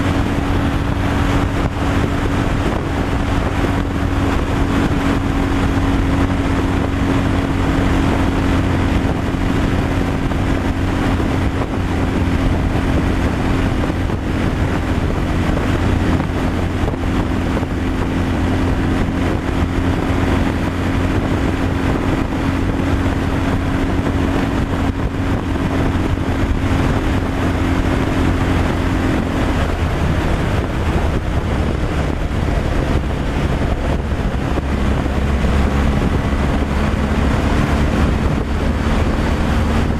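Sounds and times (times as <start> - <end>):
road and wind noise: 0.0 - 39.9
truck diesel engine running: 0.0 - 39.9.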